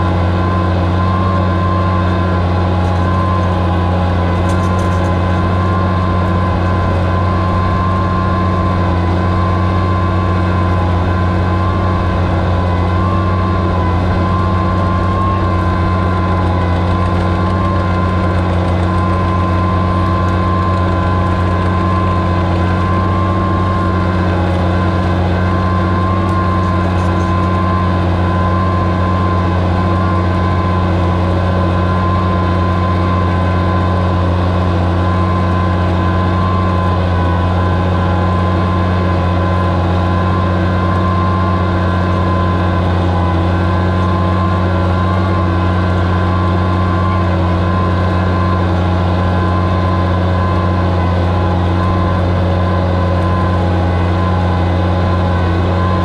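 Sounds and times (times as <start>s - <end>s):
steady whine: 0.0s - 56.0s
tractor engine running under load: 0.0s - 56.0s.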